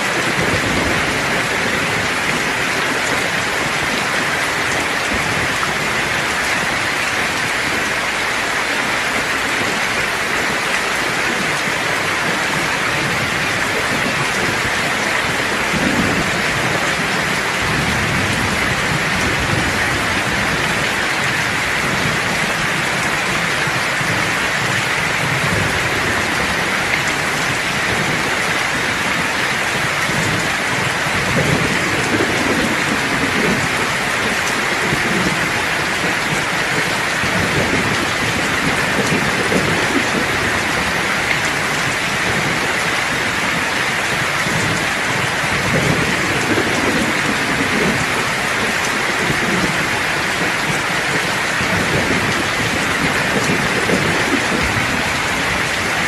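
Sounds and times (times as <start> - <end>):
low thunder rumbling: 0.0 - 56.0
steady rain falling: 0.0 - 56.0.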